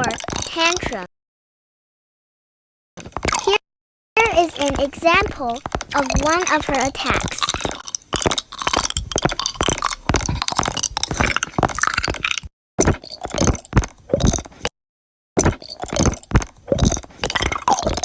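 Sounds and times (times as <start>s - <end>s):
crunching and squishing effects: 0.0s - 1.1s, 3.0s - 3.6s, 4.2s - 14.7s, 15.4s - 18.0s.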